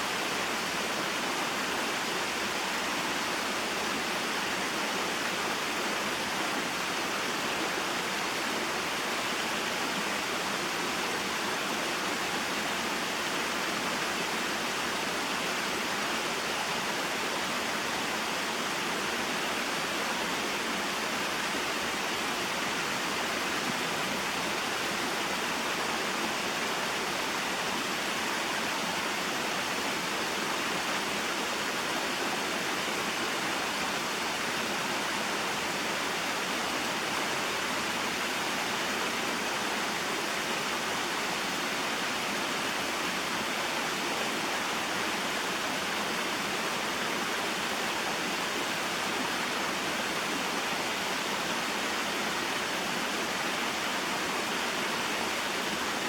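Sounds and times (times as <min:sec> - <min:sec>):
waterfall and stream rushing: 0:00.0 - 0:56.0.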